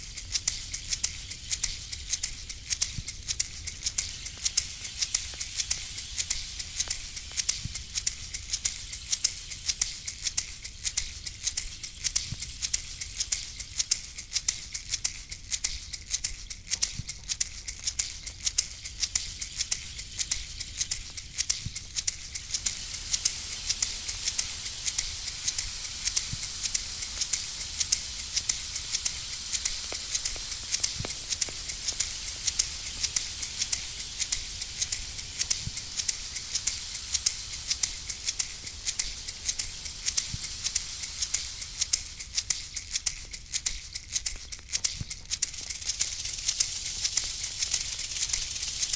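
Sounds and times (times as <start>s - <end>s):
hand rattle shaken: 0.0s - 48.9s
steady hiss: 0.0s - 48.9s.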